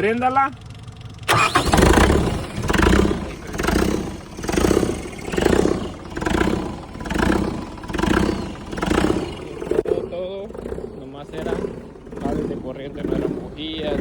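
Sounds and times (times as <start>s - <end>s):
diesel engine starting and running: 0.0s - 14.0s.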